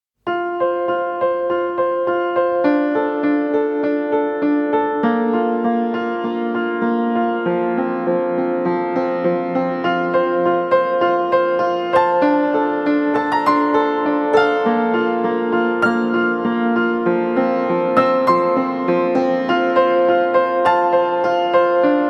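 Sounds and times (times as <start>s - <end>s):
gentle piano melody: 0.3s - 22.0s.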